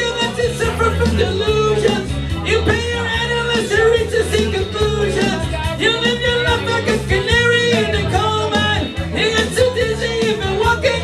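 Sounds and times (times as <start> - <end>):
rock song with vocals: 0.0 - 11.0.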